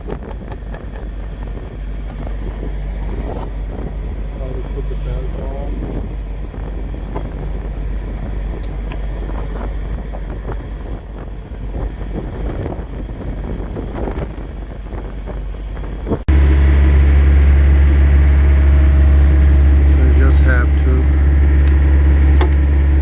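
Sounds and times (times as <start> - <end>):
diesel engine idling: 0.0 - 13.7, 14.4 - 23.0
clicks and knocks of engine work: 0.0 - 23.0
low rumble: 0.0 - 23.0.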